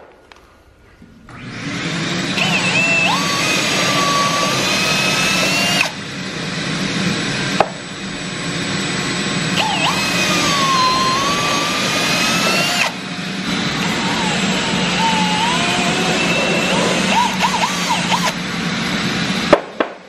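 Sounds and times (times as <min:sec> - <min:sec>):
cordless drill whining: 0:01.3 - 0:19.5.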